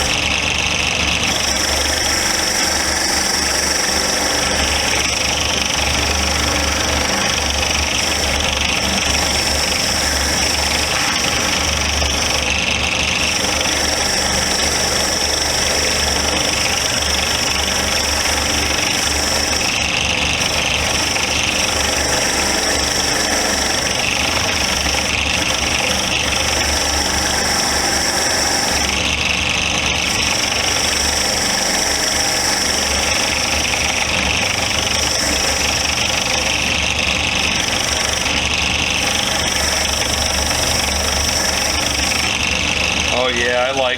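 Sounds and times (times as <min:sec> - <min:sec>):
wire wheel grinding metal: 0:00.0 - 0:43.8.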